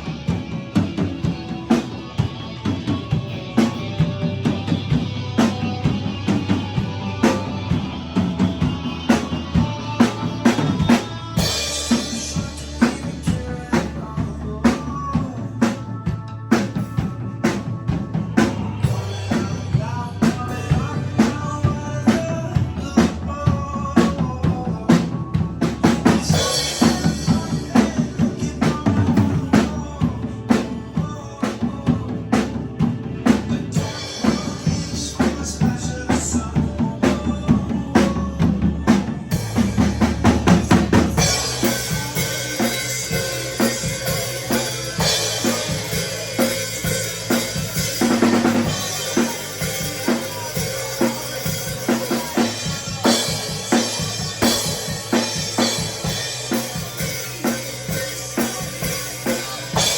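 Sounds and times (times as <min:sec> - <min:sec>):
drum kit beat: 0:00.0 - 0:59.9
recorded rock song: 0:00.0 - 0:59.9.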